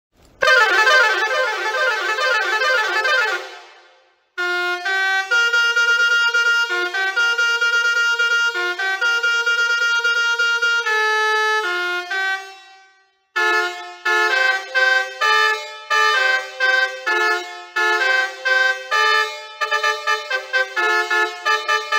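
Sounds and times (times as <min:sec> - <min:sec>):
musical air horn playing melodies: 0:00.4 - 0:21.9.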